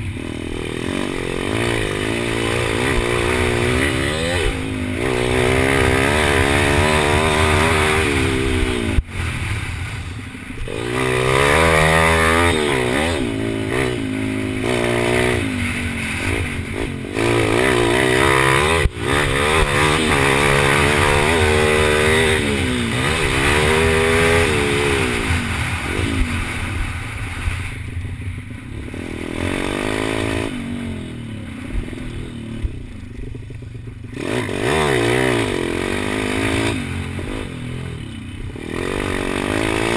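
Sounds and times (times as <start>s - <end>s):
small motorcycle engine revving: 0.0s - 27.8s, 28.7s - 39.9s.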